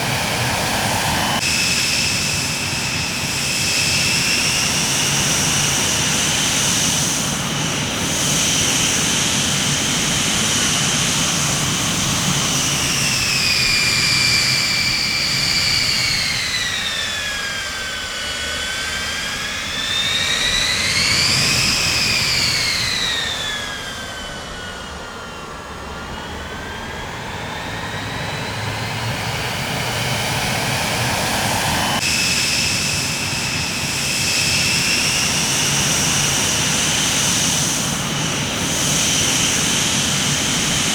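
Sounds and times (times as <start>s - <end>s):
jet engines roaring and whining: 0.0s - 40.9s.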